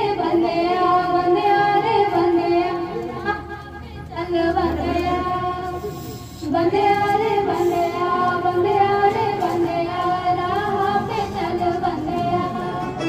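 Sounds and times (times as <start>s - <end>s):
women singing into microphone: 0.0s - 13.0s.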